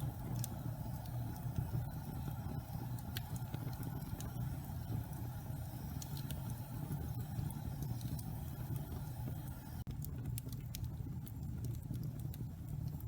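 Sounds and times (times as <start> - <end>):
burning wood crackling and popping: 0.0 - 13.0
log fire rumbling: 0.0 - 13.0.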